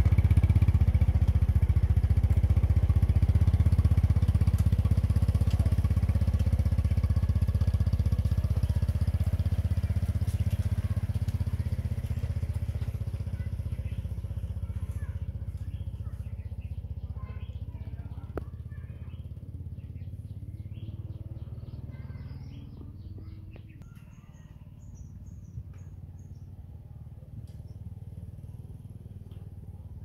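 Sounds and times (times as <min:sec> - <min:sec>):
birds chirping: 0:00.0 - 0:29.8
motorbike engine running: 0:00.0 - 0:30.0.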